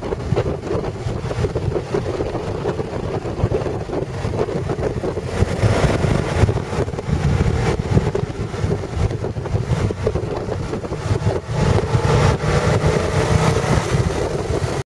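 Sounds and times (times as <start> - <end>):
motorcycle engine at road speed: 0.0 - 14.8
wind buffeting microphone: 0.0 - 14.8.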